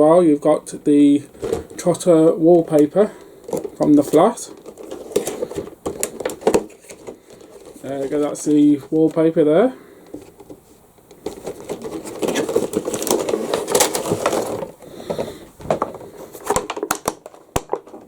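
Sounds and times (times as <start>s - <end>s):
cardboard and plastic rustling: 0.0s - 18.0s.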